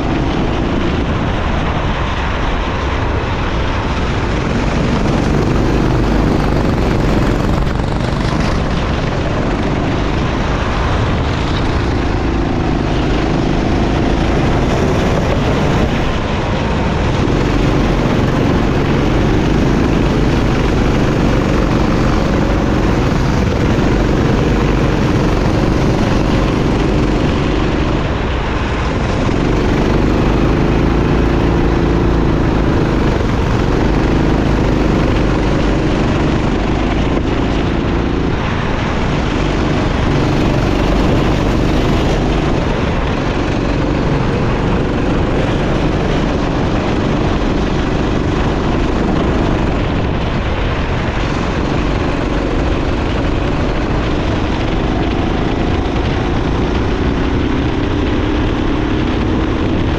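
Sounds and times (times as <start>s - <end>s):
kart engine revving: 0.0s - 59.9s
wind and track noise: 0.0s - 59.9s.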